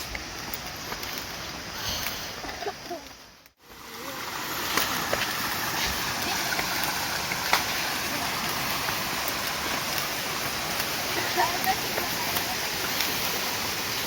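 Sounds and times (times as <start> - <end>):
mountain stream flowing: 0.0 - 14.0.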